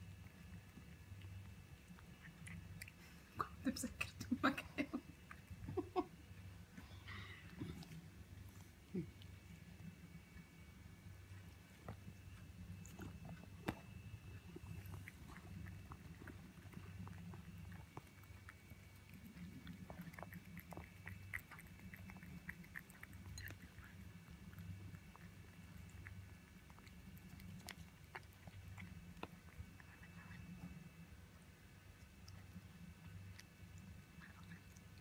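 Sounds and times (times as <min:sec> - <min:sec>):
cat chewing with mouth clicks: 0:00.0 - 0:03.4, 0:05.0 - 0:06.7, 0:07.4 - 0:35.0.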